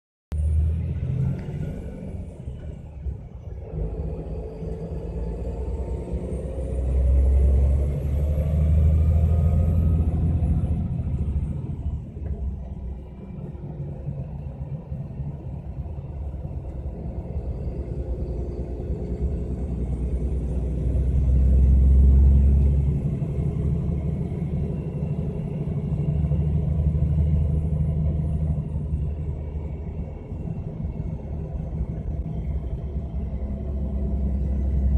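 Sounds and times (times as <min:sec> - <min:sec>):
coach engine low rumble: 0:00.3 - 0:34.9.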